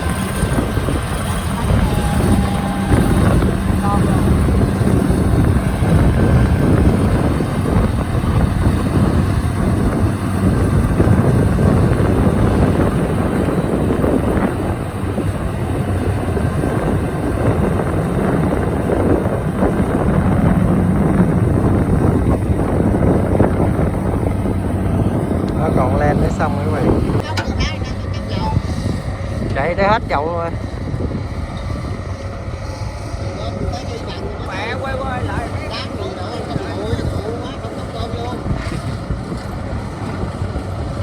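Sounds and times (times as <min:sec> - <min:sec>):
combine harvester engine drone: 0:00.0 - 0:41.0.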